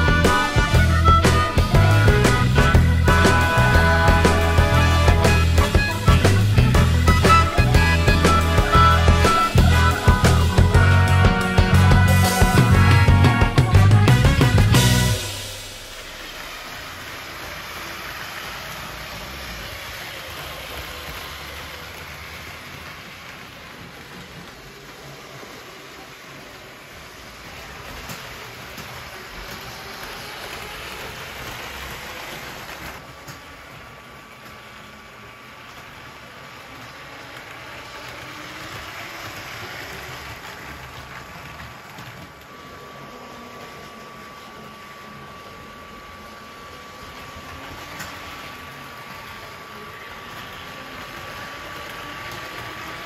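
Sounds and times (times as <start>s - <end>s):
toy trains rolling on track: 0.0s - 53.0s.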